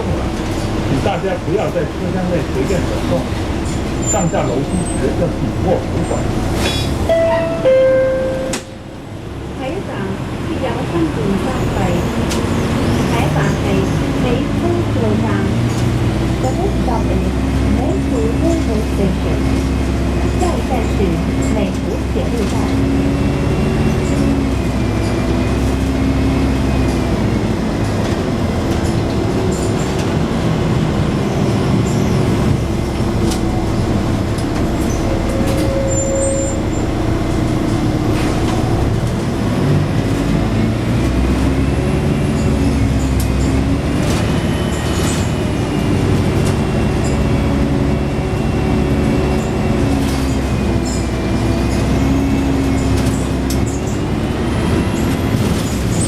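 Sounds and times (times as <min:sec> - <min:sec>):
bus diesel engine accelerating: 0:00.0 - 0:56.0
drivetrain whine: 0:00.0 - 0:56.0.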